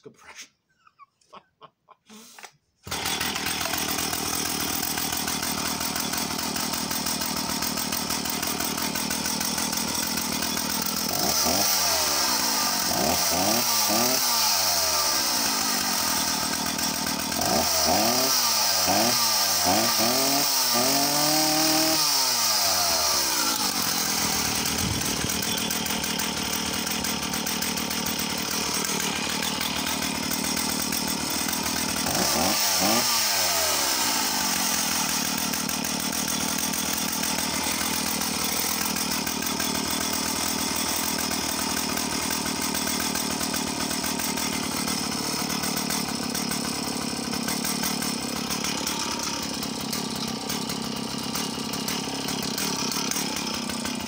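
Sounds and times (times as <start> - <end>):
chainsaw revving and idling: 2.1 - 54.0.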